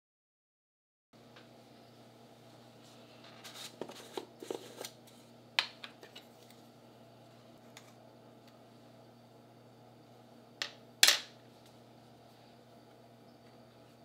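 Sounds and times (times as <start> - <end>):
low steady hum: 1.2 - 14.0.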